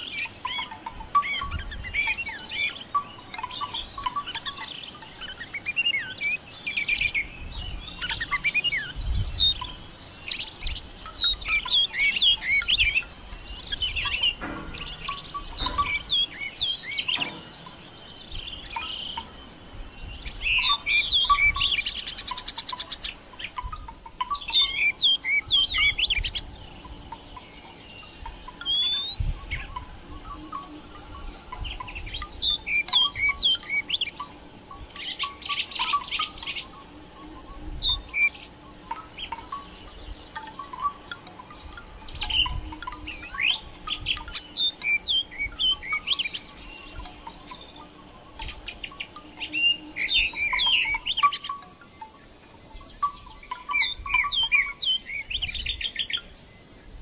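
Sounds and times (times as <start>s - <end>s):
birds chirping and twittering: 0.0s - 57.0s.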